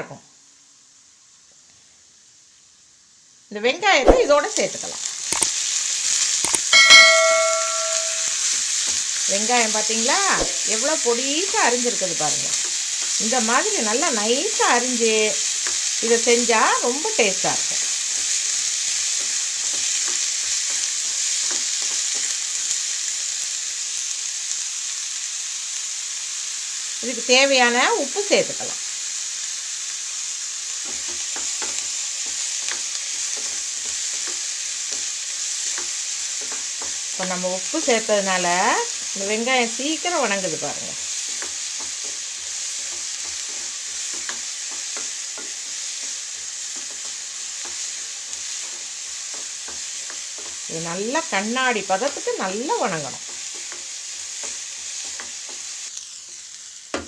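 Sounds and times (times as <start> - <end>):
onions sizzling in hot oil: 0.0 - 57.0.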